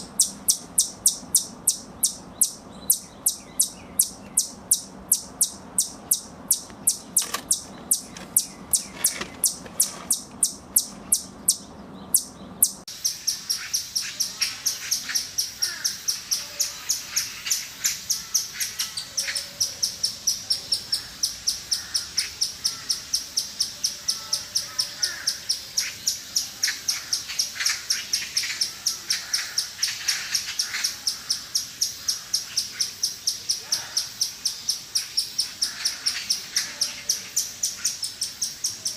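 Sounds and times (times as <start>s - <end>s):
squirrel chipping calls: 0.0s - 38.9s.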